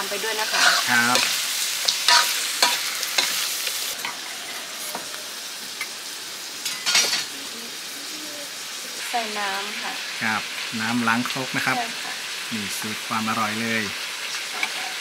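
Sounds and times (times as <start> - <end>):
chicken sizzling in a wok: 0.0 - 15.0.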